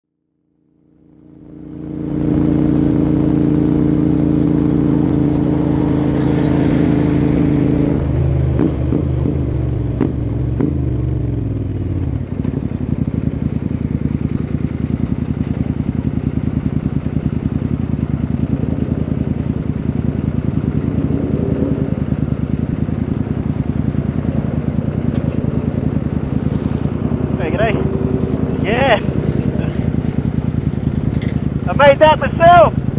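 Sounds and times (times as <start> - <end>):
motorcycle engine running: 0.4 - 32.9.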